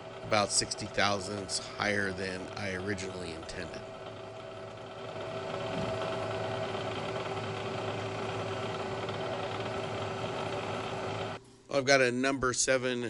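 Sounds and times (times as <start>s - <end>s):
milling machine motor humming: 0.0s - 11.4s.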